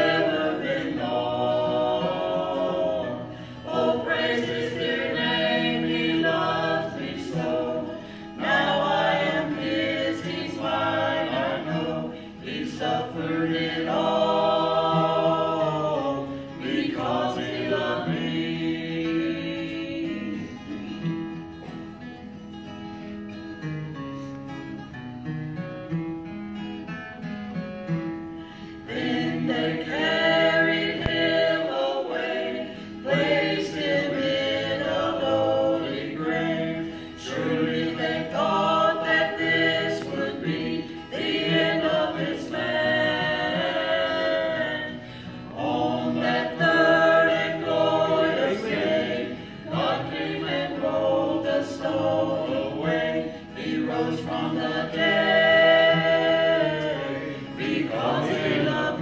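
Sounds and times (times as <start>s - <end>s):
vocal group singing gospel: 0.0s - 21.2s, 28.5s - 59.0s
acoustic guitar: 0.0s - 59.0s.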